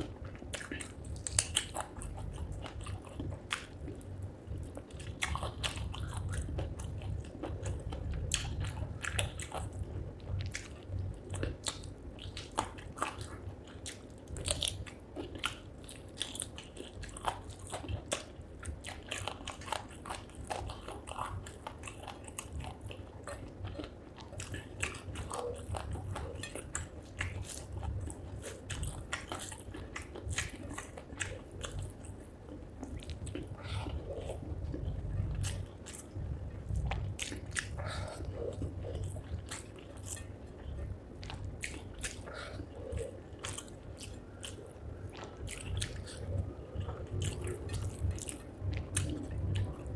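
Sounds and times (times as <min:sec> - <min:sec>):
biting and chewing food: 0:00.0 - 0:49.9.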